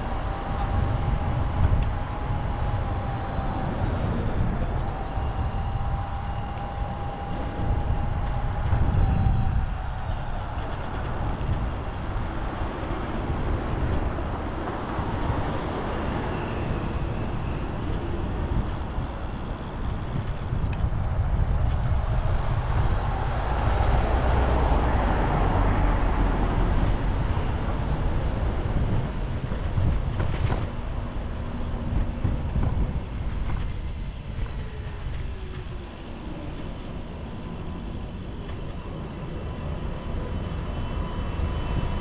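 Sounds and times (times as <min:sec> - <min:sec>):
bicycle tyre road rumble: 0:00.0 - 0:42.0
wind on microphone: 0:00.0 - 0:42.0.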